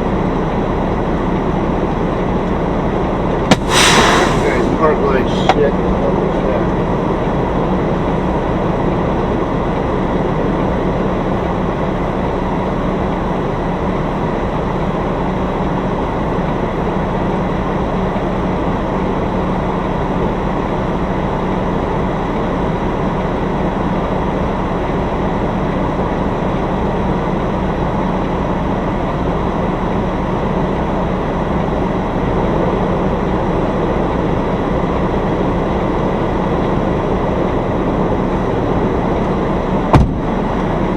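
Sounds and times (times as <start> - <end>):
diesel truck engine rumbling: 0.0 - 40.9.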